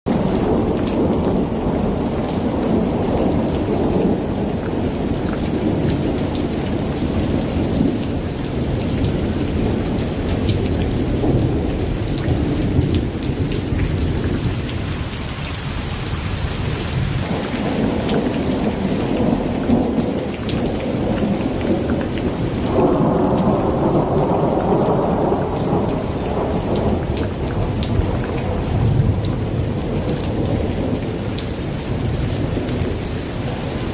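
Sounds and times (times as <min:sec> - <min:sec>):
rain pattering: 0:00.1 - 0:33.9
rolling thunder rumble: 0:00.1 - 0:33.9.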